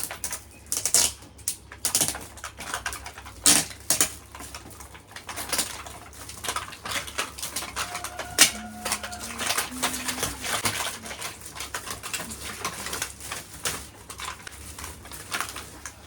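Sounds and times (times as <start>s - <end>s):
gift wrapping rustling and crinkling: 1.8s - 16.0s.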